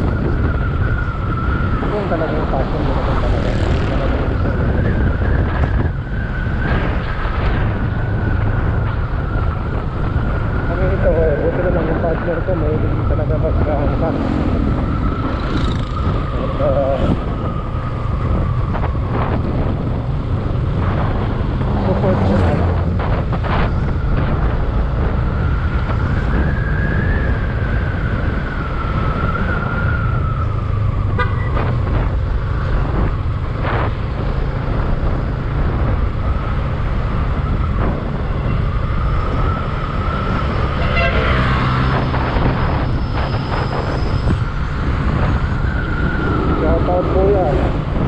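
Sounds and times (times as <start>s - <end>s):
motorcycle engine rumble: 0.0s - 48.0s.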